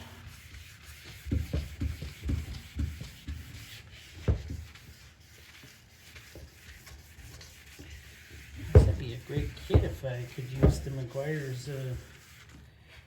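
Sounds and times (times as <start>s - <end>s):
sandpaper rubbing on plastic: 0.2s - 13.0s.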